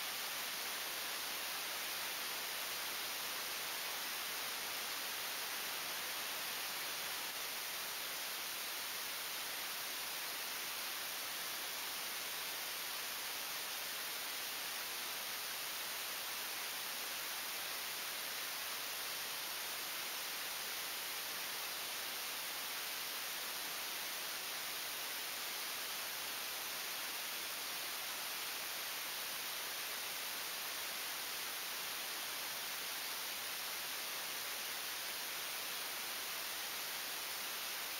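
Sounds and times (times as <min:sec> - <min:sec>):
steady static hiss: 0:00.0 - 0:37.9.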